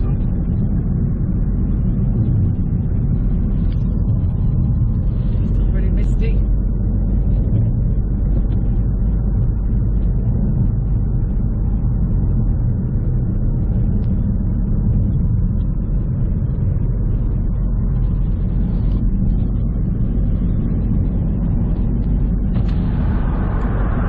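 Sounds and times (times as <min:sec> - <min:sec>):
engine and road rumble in car: 0:00.0 - 0:24.0.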